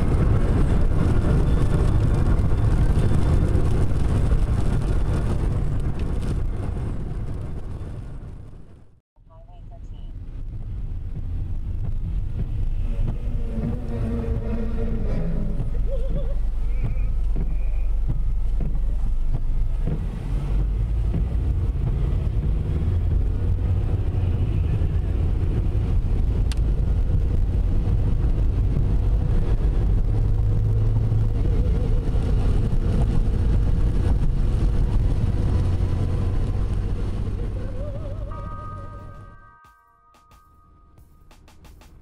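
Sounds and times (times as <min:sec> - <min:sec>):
wind noise: 0:00.0 - 0:09.0, 0:10.1 - 0:39.4
car engine and tyres on wet road: 0:00.0 - 0:39.4.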